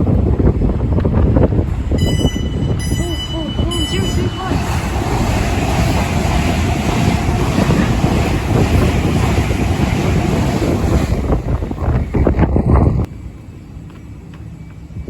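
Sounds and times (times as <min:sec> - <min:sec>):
wind buffeting microphone: 0:00.0 - 0:13.8
train rushing past: 0:00.0 - 0:15.0.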